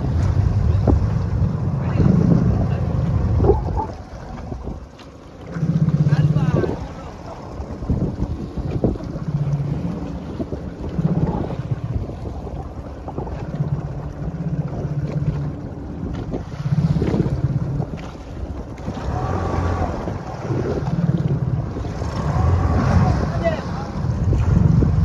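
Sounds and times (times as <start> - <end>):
boat engine rumble: 0.0 - 25.0
water washing against hull: 0.0 - 25.0
wind buffeting microphone: 0.0 - 25.0.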